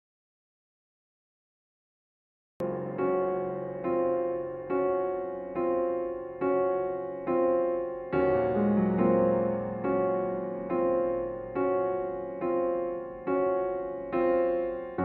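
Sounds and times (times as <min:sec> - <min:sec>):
piano playing gentle chords: 0:02.6 - 0:15.0.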